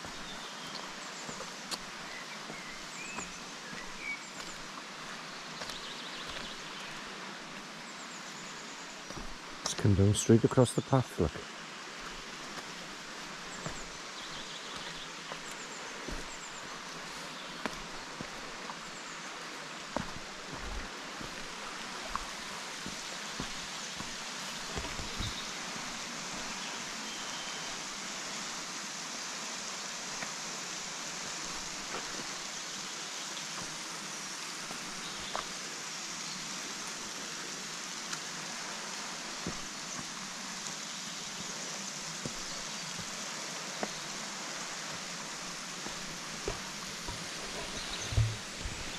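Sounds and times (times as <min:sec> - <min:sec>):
waterfall rushing: 0:09.2 - 0:48.9.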